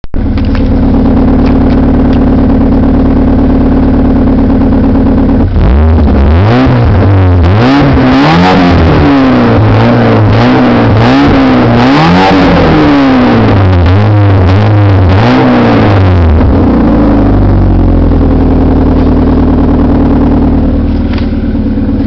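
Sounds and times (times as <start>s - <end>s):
car engine revving: 0.2s - 22.0s.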